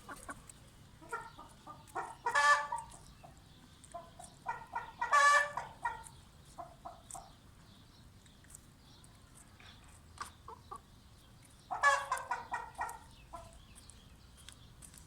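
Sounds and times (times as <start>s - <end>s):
chickens clucking: 0.0s - 7.5s, 9.3s - 14.0s.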